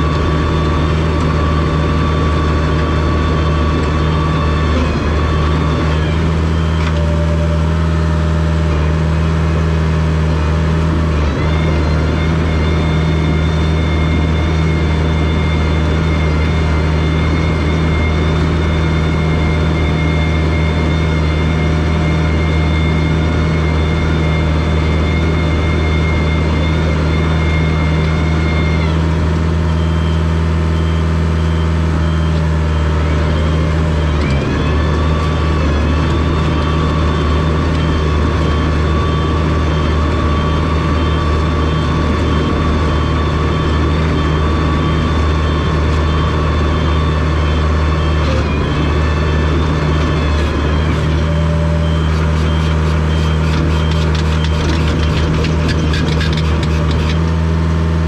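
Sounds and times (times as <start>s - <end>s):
bulldozer diesel engine running: 0.0s - 58.0s
thin high whine: 11.1s - 57.9s.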